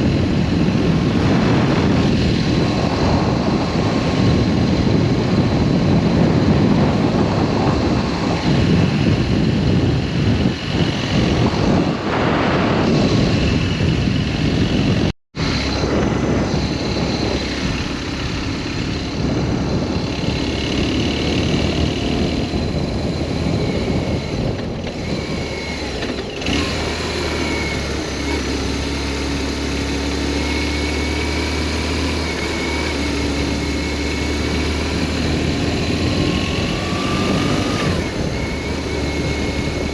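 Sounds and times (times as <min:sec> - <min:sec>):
heavy wind noise: 0:00.0 - 0:39.9
motorcycle engine running: 0:00.0 - 0:39.9.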